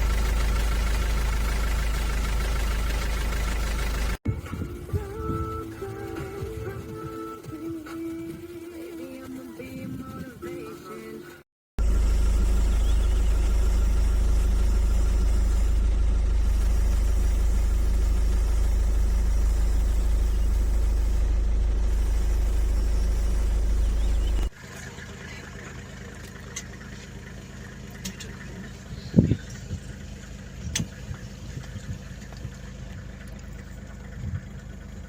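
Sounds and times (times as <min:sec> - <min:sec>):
engine idling low rumble: 0:00.0 - 0:08.8, 0:11.8 - 0:35.0.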